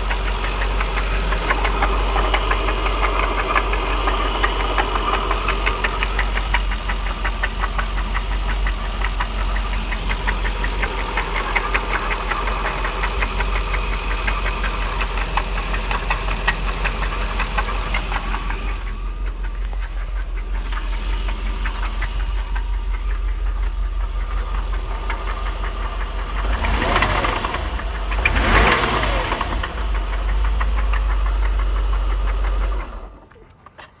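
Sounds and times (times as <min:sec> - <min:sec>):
engine revving: 0:00.0 - 0:33.2
car engine idling with knocking: 0:00.0 - 0:33.8.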